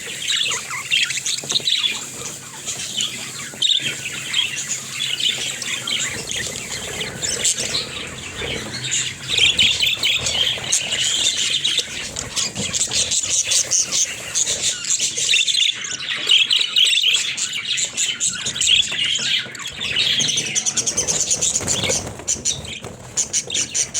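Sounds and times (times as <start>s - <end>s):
budgerigars chirping and chattering: 0.0s - 23.9s.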